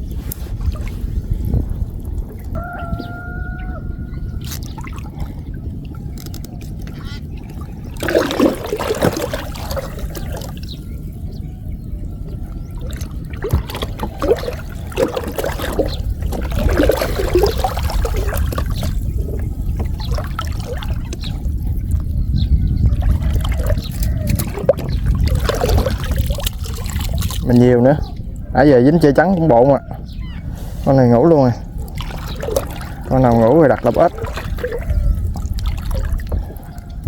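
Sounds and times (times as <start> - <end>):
water trickling and splashing: 0.0 - 37.0.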